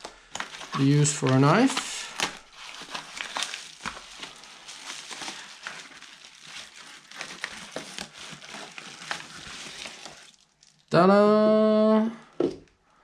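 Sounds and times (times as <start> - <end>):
paper bag crinkling and tearing: 0.4 - 10.9.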